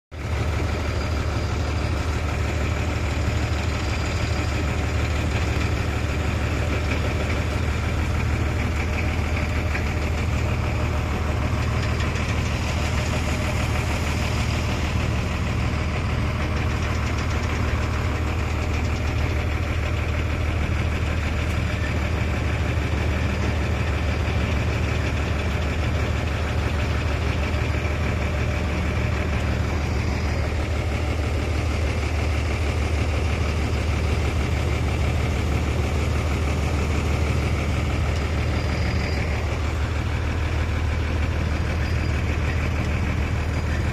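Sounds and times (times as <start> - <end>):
diesel engine drone: 0.1 - 43.9.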